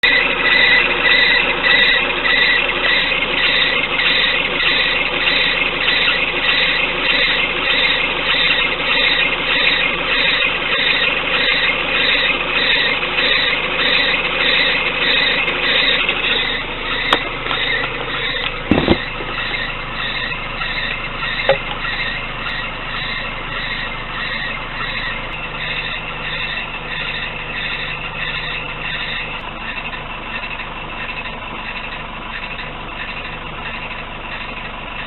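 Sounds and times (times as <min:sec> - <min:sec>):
car engine running: 0:00.0 - 0:35.0
high pulsing squeal: 0:00.0 - 0:35.0.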